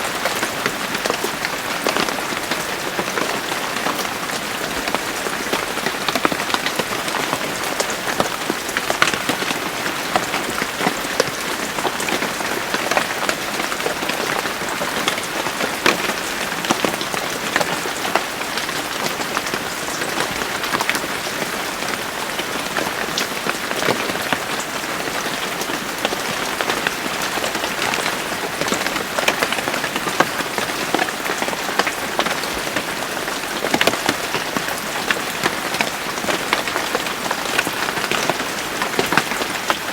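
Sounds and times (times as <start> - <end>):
rain falling: 0.0 - 39.9
raindrops ticking on hard surface: 0.1 - 39.9.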